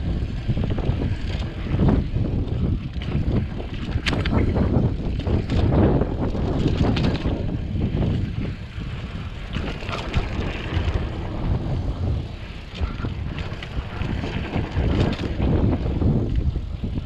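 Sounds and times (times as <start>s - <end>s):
bike rattling and knocking: 0.0s - 17.0s
bike tyres rumbling over dirt: 0.0s - 17.0s
wind buffeting microphone: 0.0s - 17.0s.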